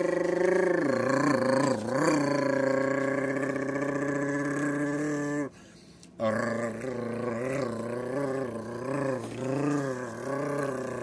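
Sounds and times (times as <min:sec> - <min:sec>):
person imitating engine buzz: 0:00.0 - 0:05.5, 0:06.2 - 0:11.0.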